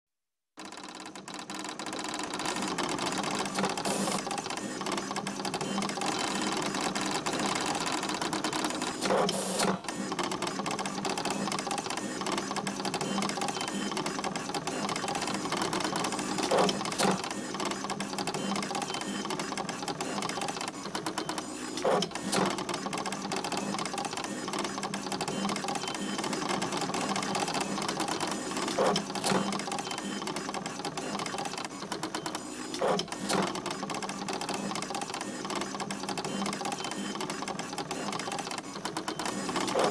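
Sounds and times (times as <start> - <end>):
printing machine clattering: 0.6 - 39.9.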